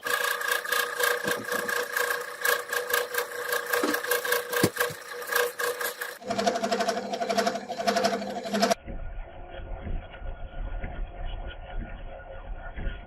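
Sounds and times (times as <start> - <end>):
machine whining and ticking: 0.0 - 13.0.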